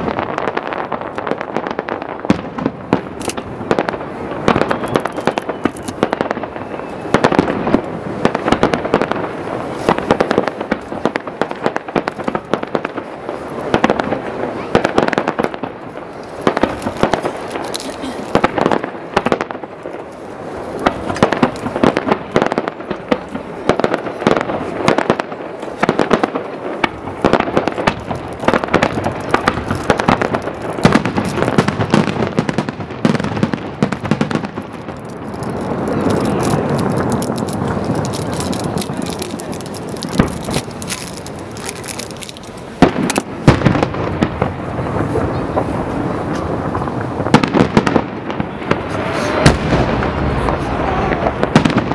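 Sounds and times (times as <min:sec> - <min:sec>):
crackling firework stars: 0:00.0 - 0:51.9
loud firework bangs: 0:00.0 - 0:51.9.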